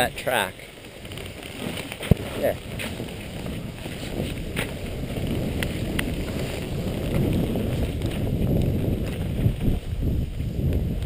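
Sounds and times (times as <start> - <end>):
sliding across snow: 0.0 - 11.0
wind rumbling on microphone: 0.0 - 11.0.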